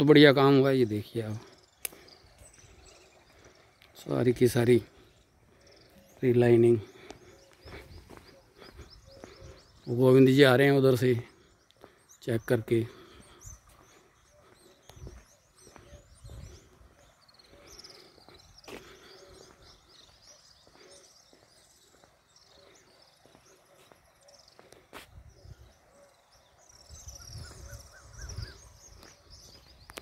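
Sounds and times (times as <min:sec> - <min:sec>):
low repeated bird calls: 0:00.0 - 0:30.0
small birds chirping: 0:00.0 - 0:30.0.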